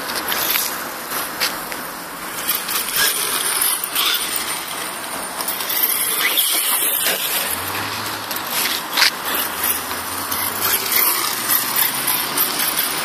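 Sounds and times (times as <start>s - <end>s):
tyre noise: 0.0s - 13.0s
rc truck motor whine: 0.2s - 13.0s.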